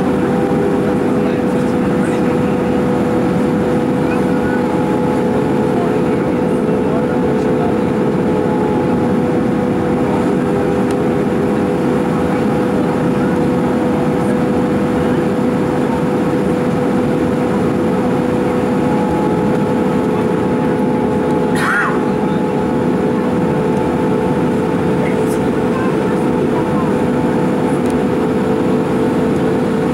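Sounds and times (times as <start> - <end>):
jet engines and airflow rushing: 0.0 - 29.9
steady humming tones: 0.0 - 29.9.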